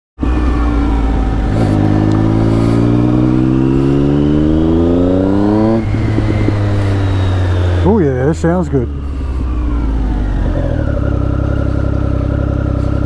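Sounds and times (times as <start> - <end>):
motorcycle engine accelerating: 0.2 - 13.0.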